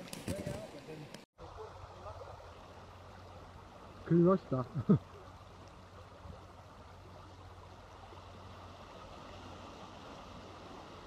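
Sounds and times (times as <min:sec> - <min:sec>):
small waves on stony beach: 0:00.0 - 0:11.0.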